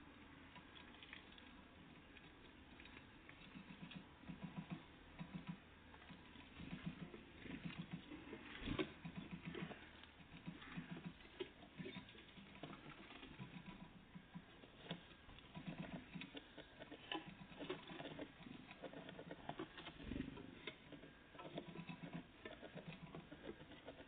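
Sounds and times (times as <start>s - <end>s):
birds pecking on a feeder: 0.0s - 24.0s.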